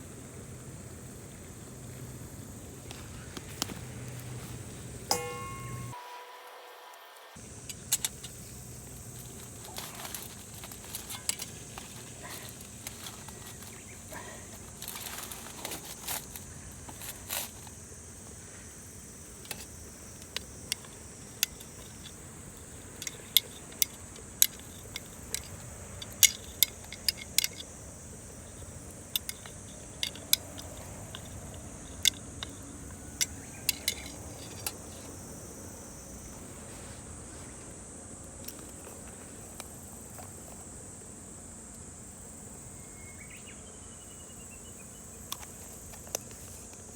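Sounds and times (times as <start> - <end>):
high insect chorus: 0.0 - 46.9.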